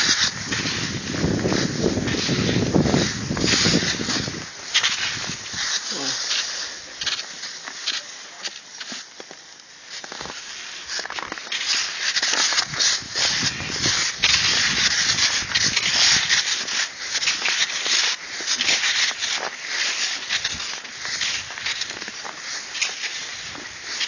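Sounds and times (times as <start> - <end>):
snow crunching underfoot: 0.0 - 24.0.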